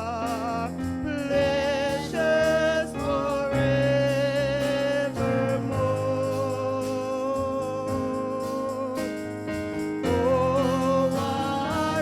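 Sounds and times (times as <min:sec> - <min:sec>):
instrumental accompaniment: 0:00.0 - 0:12.0
person singing gospel song: 0:00.0 - 0:12.0.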